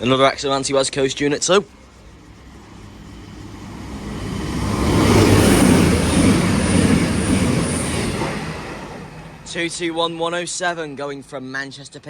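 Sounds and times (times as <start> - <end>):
diesel train passing at speed: 0.0 - 12.0.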